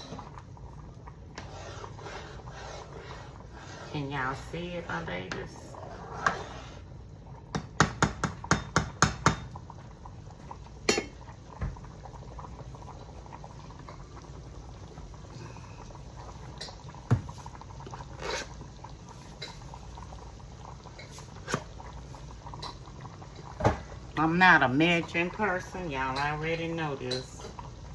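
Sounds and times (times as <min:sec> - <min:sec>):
sauce bubbling in a skillet: 0:00.0 - 0:27.9.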